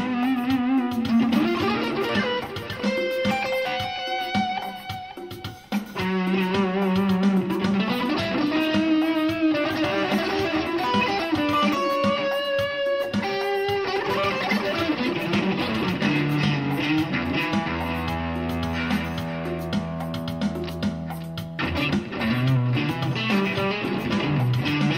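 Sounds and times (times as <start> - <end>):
electric guitar lead line: 0.0 - 24.9.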